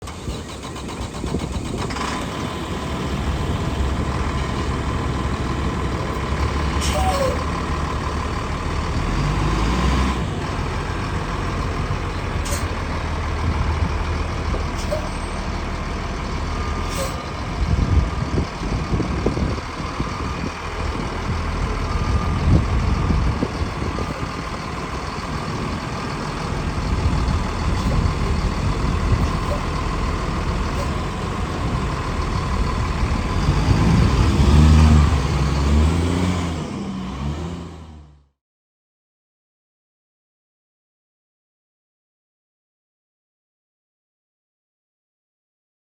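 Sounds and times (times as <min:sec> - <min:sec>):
diesel bus engine running: 0:00.0 - 0:38.3.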